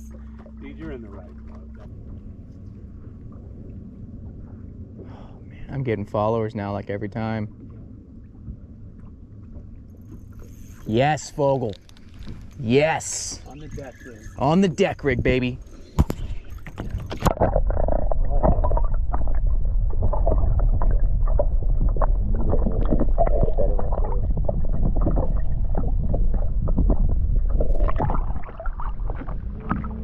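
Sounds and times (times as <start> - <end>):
muffled underwater rushing: 0.0 - 30.0.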